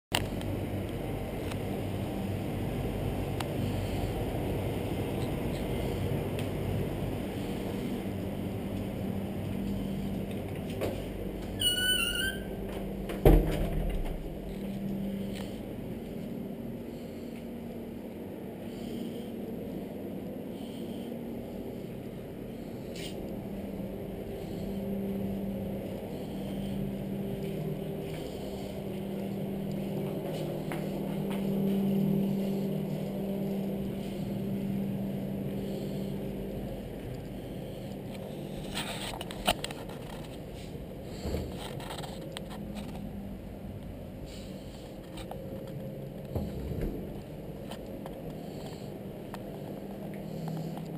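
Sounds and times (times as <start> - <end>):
low mechanical hum: 0.1 - 50.9.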